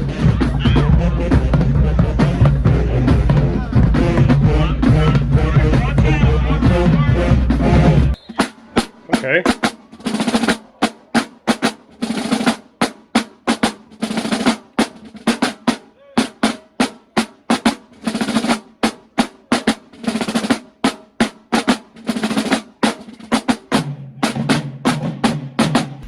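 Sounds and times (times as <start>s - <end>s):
drumline playing a cadence: 0.0s - 26.0s.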